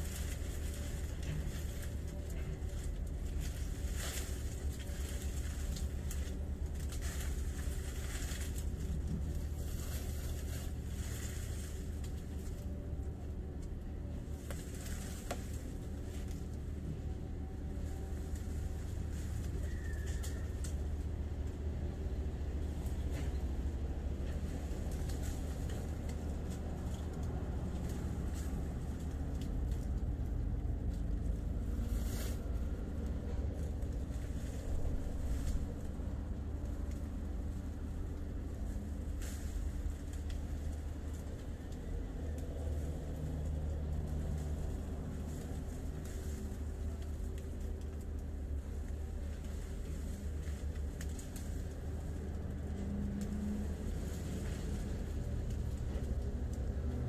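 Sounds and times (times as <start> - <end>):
branches and leaves rustling: 0.0 - 57.0
low outdoor rumble: 0.0 - 57.0.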